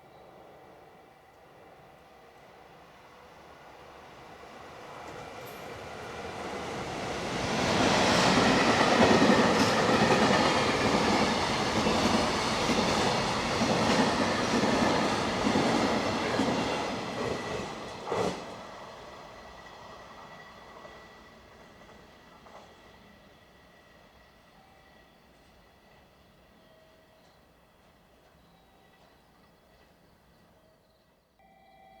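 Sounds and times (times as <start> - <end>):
freight train passing: 0.0 - 31.6.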